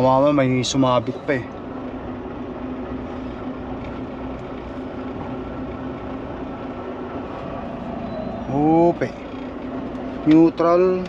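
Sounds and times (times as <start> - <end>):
truck diesel engine humming: 0.0 - 11.0.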